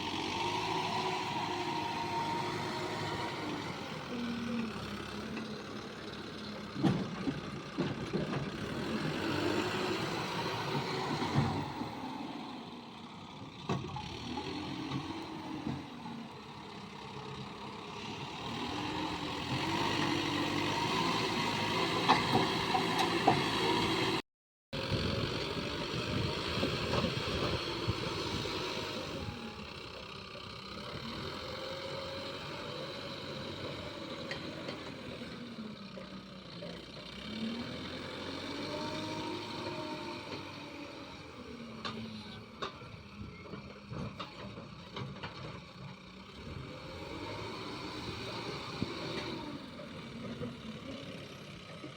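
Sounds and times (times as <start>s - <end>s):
heavy diesel engines revving: 0.0s - 24.2s, 24.8s - 51.9s.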